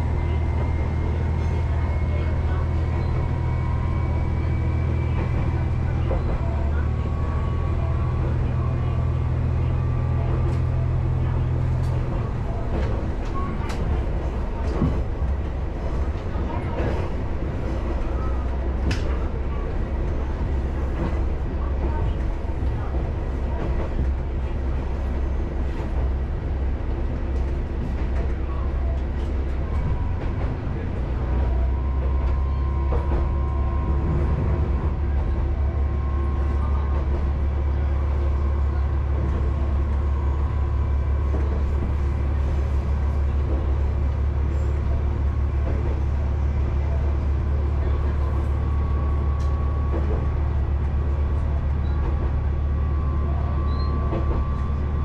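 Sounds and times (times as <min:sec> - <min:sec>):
diesel railcar engine drone: 0:00.0 - 0:55.0.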